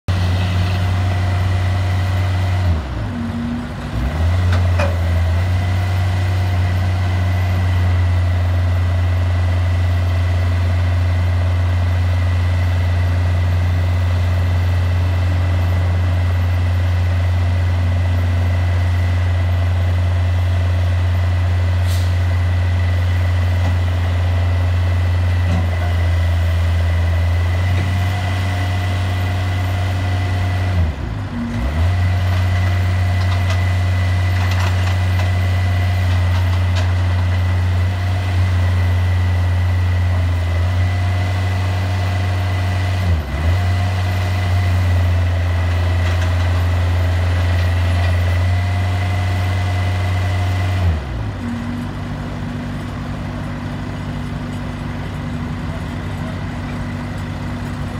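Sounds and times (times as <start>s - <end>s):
diesel engine drone: 0.1s - 57.9s.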